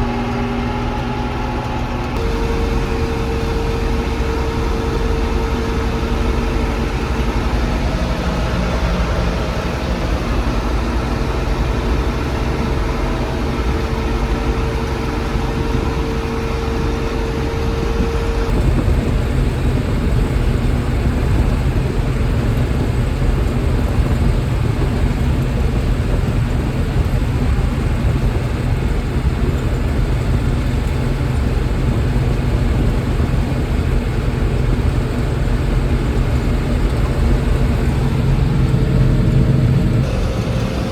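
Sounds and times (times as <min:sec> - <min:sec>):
steady whine: 0:00.0 - 0:40.9
vehicle engine running: 0:00.0 - 0:40.9.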